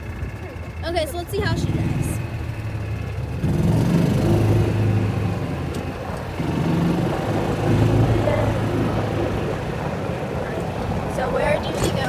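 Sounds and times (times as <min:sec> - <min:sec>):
golf cart engine droning: 0:00.0 - 0:12.0.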